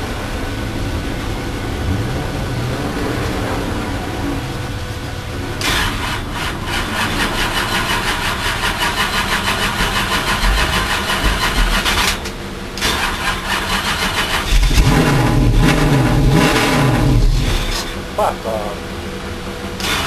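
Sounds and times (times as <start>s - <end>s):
race car engine running hard: 0.0s - 20.0s.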